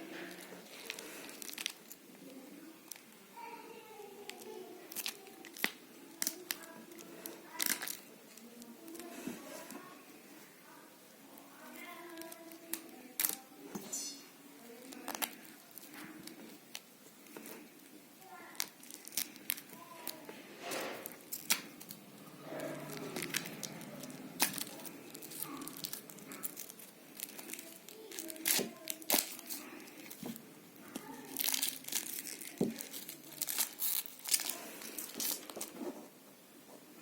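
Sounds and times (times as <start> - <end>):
packaging crinkling and tearing: 0.1 - 2.0, 4.2 - 9.7, 11.7 - 13.4, 14.6 - 35.8.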